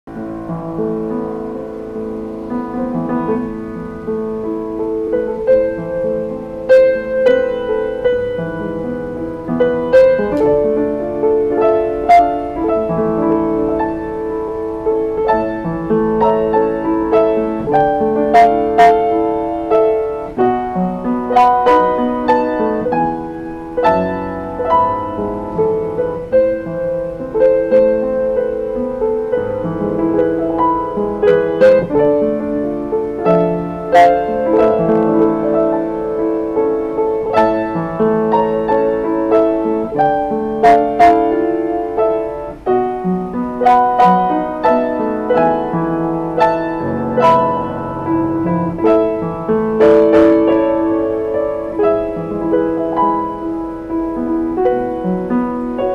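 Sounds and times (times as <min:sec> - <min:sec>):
upright piano playing: 0:00.0 - 0:55.9.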